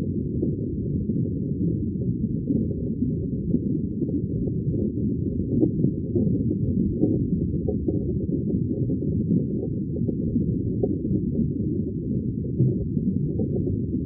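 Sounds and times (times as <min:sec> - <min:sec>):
underwater bubbling: 0:00.0 - 0:14.0.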